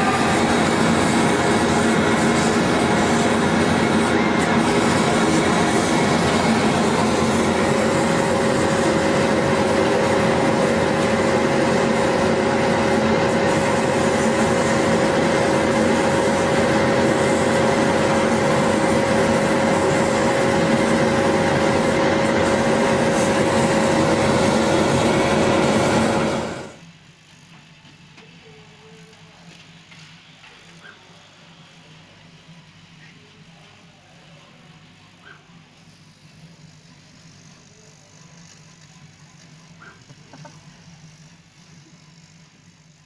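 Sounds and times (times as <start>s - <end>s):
laser cutter machine drone: 0.0s - 43.0s.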